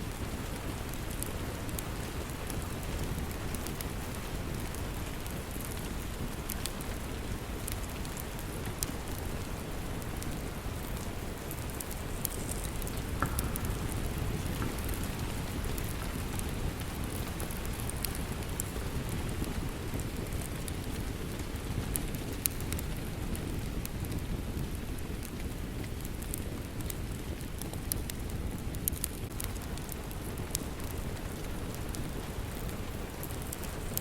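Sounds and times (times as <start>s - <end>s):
steady rain: 0.0s - 34.0s
wood fire crackling: 0.0s - 34.0s.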